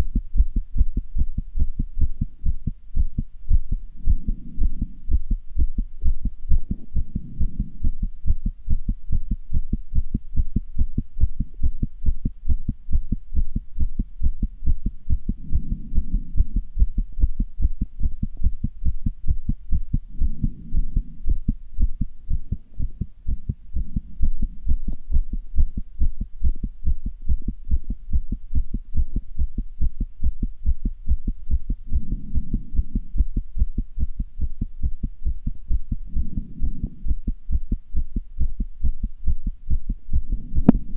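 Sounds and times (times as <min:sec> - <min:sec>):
heart beating fast: 0:00.0 - 0:40.9.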